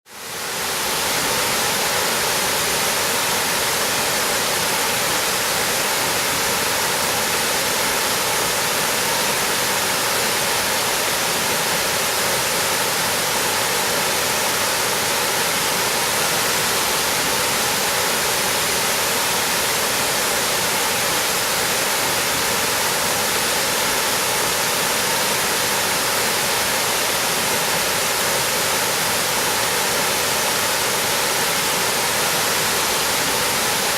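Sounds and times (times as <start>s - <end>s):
waterfall roaring: 0.1s - 33.9s.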